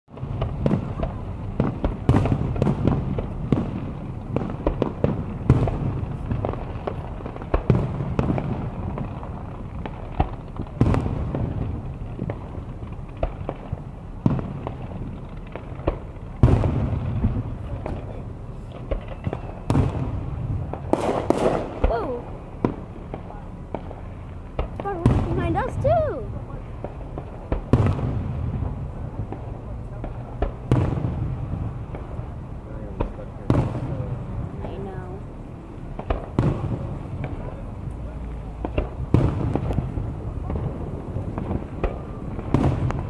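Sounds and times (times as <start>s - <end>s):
fireworks bangs and booms: 0.1s - 43.0s.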